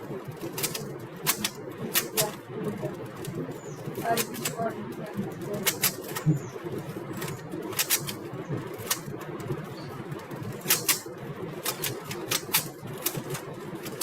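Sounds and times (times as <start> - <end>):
steady low background noise: 0.0 - 14.0
puzzle cube plastic clicks: 0.3 - 14.0.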